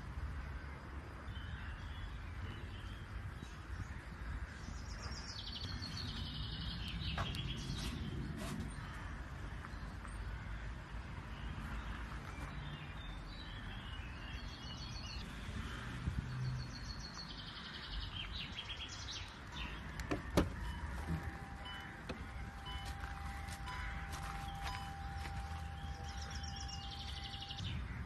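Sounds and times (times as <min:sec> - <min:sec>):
birds chirping: 0:00.2 - 0:28.0.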